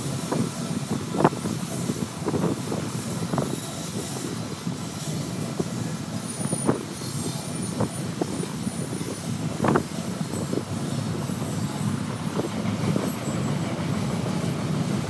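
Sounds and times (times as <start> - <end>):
train clanks: 0.0 - 15.0
train wheels rumbling on rail: 0.0 - 15.0.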